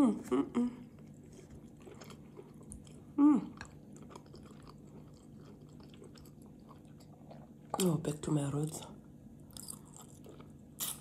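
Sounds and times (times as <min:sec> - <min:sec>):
person chewing: 0:00.2 - 0:07.8, 0:09.4 - 0:11.0.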